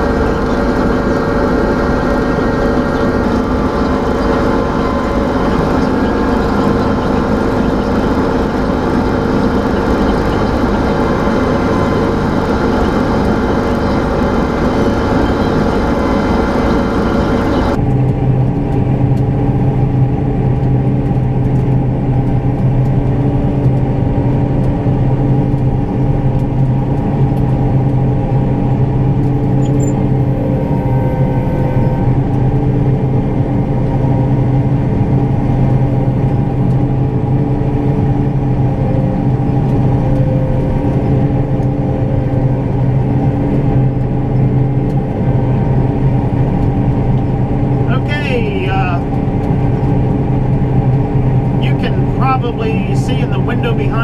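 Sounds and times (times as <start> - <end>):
combine harvester drone: 0.0 - 54.0.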